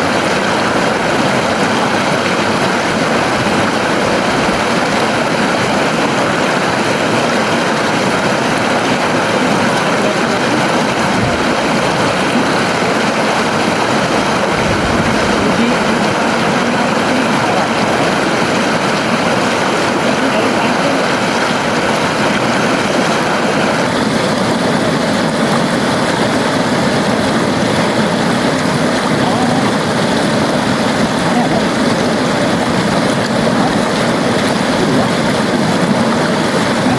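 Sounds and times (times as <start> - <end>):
river water flowing: 0.0 - 36.9.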